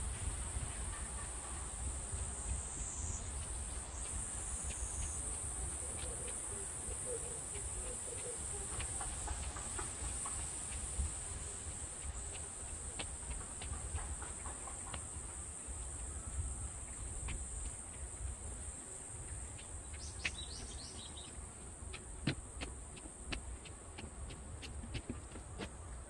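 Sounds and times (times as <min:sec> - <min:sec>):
cicadas buzzing in chorus: 0:00.0 - 0:25.7.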